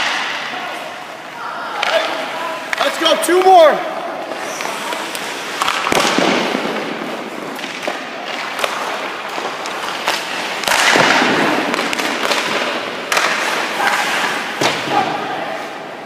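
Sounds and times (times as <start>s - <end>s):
hockey sticks and pucks clacking: 0.0s - 16.0s
skates scraping on ice: 0.0s - 16.0s.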